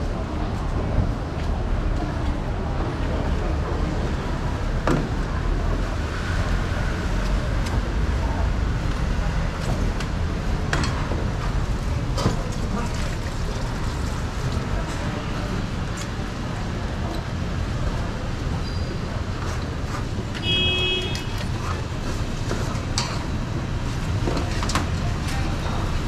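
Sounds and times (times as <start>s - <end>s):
busy street market noise: 0.0s - 26.0s.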